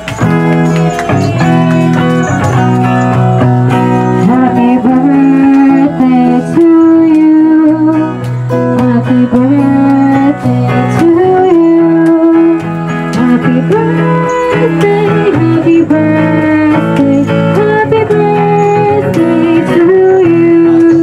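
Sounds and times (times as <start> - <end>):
guitar accompaniment: 0.0 - 21.0
woman singing into a microphone: 4.1 - 21.0.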